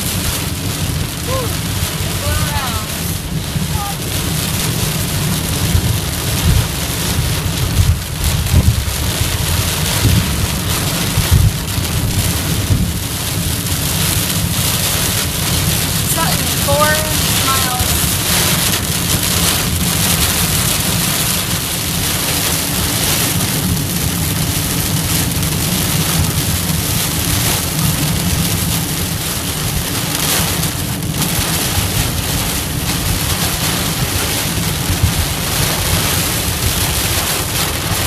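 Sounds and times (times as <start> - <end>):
car road noise: 0.0 - 38.0
heavy rain on car roof: 0.0 - 38.0.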